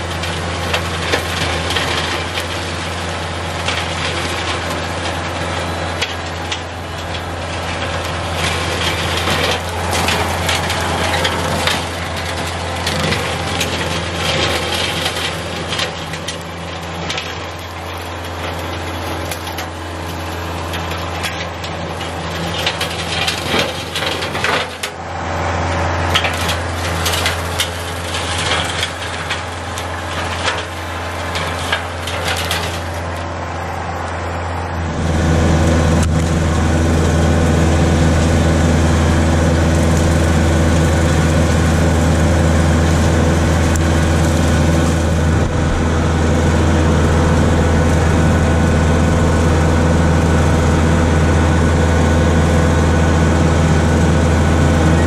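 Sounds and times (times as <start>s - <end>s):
tractor engine running: 0.0s - 55.0s
woody stems cracking and crunching: 0.0s - 55.0s.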